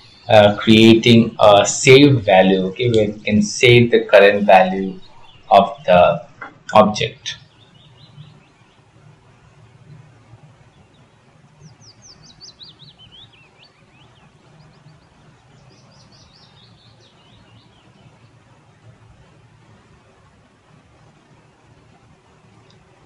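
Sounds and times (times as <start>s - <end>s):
faint background noise: 0.0s - 23.0s
songbird chirping: 0.0s - 23.0s.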